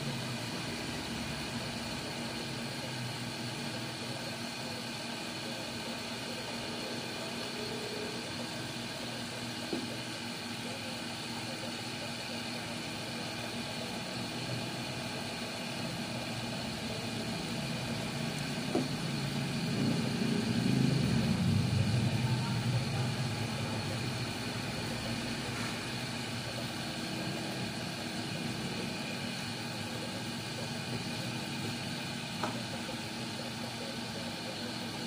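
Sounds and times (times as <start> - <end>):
motor hum: 0.0 - 35.0.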